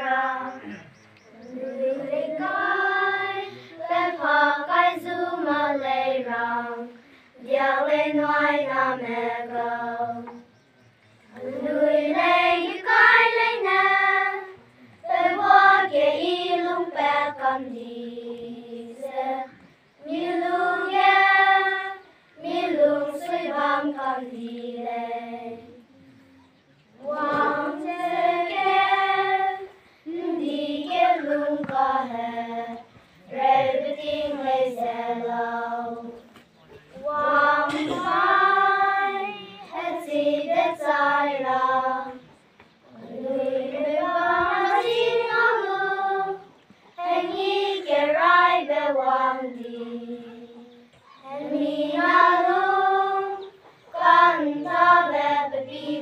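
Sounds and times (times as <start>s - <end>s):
choir singing unaccompanied: 0.0s - 56.0s.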